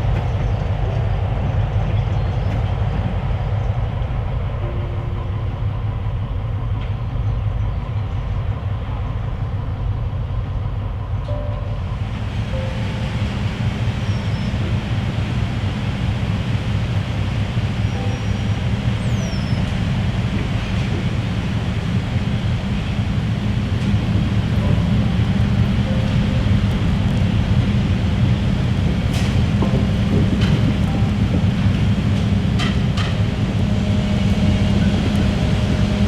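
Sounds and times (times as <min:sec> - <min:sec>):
diesel locomotive rumbling: 0:00.0 - 0:36.0.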